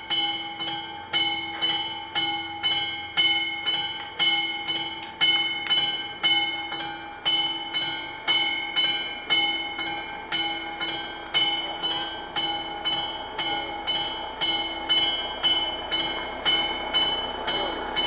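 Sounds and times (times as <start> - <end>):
mechanical warning bell ringing: 0.0 - 18.0.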